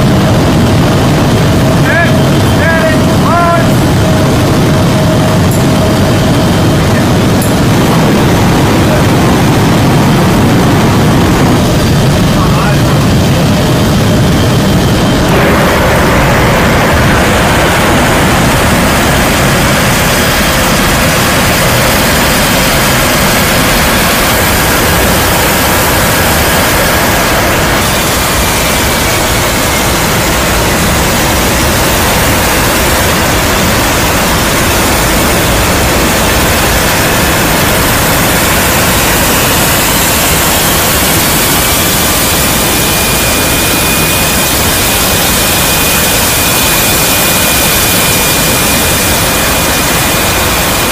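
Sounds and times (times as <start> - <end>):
jet engines roaring: 0.0 - 50.9
rushing airflow: 0.0 - 50.9.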